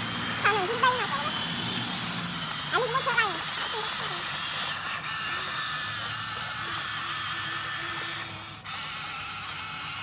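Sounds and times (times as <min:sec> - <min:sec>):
toy truck motor whining: 0:00.0 - 0:10.0.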